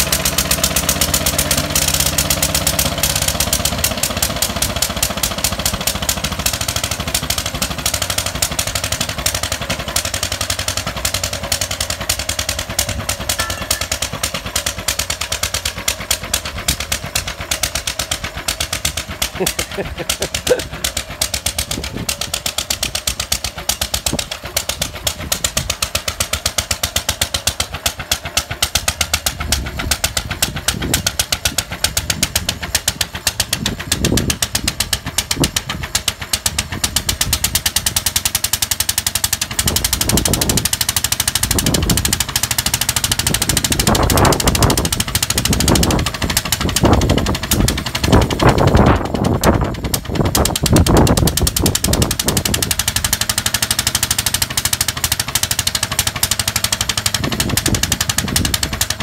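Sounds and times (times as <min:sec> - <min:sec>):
motorbike engine running: 0:00.0 - 0:59.0.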